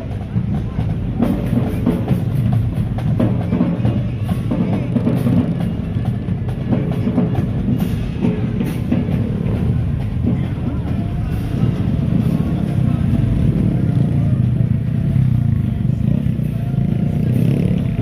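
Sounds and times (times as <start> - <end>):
drumline playing cadence: 0.0 - 15.2
heavy bass drums: 0.0 - 18.0.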